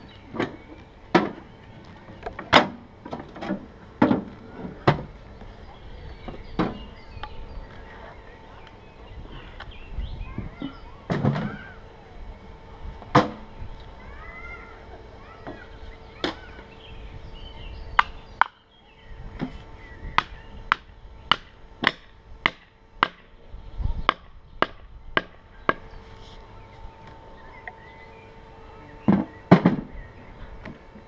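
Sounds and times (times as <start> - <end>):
faint birds chirping: 0.0 - 21.8, 23.3 - 31.0.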